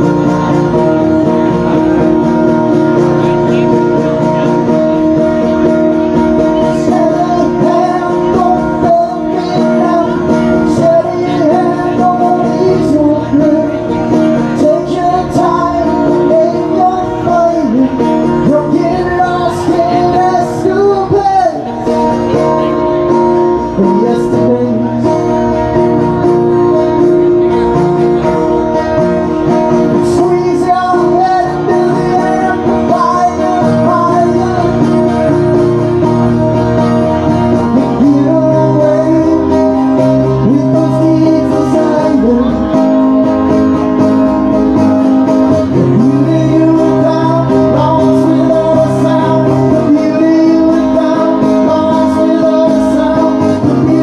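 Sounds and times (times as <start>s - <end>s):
guitar strumming: 0.0s - 54.0s
man singing: 0.0s - 54.0s.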